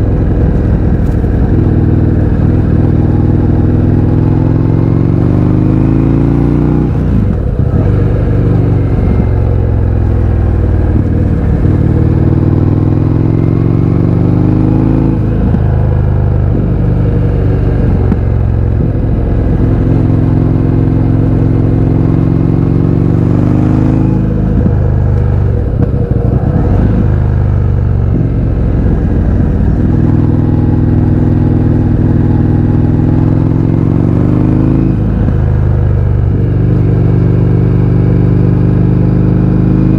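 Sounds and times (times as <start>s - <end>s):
motorcycle engine accelerating hard: 0.0s - 39.9s.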